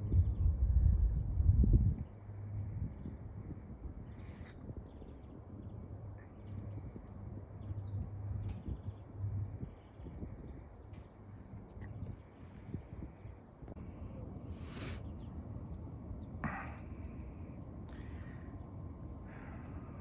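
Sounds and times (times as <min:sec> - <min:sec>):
low background rumble: 0:00.0 - 0:20.0
small birds chirping: 0:00.0 - 0:20.0.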